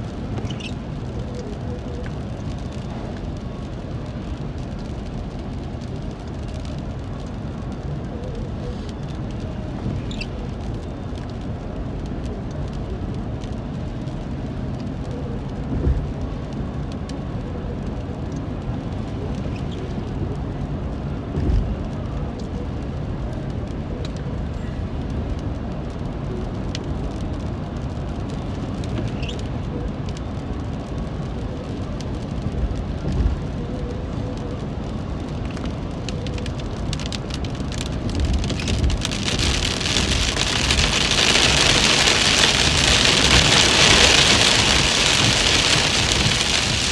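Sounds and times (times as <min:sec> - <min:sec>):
low rumble: 0:00.0 - 0:46.9
rain on a car: 0:00.0 - 0:46.9.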